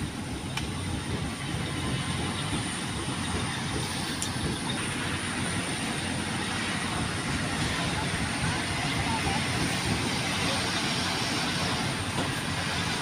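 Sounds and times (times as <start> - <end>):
combine harvester rumble and clatter: 0.0 - 13.0.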